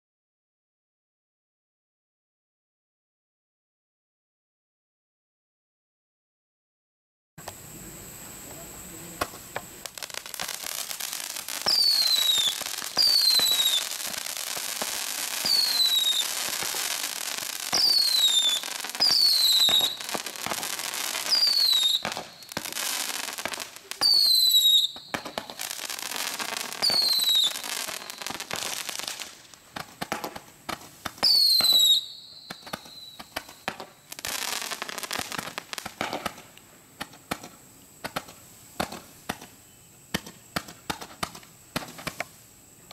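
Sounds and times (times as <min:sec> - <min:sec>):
fireworks hissing and crackling: 0:07.4 - 0:42.9
fireworks popping: 0:07.4 - 0:42.9
fireworks whistling: 0:07.4 - 0:42.9.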